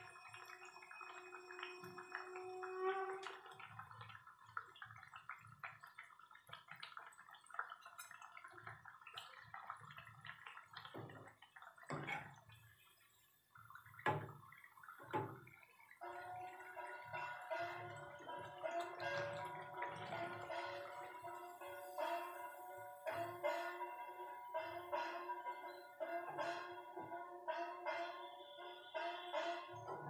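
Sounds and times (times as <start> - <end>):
batter frying in hot oil: 0.0 - 27.1.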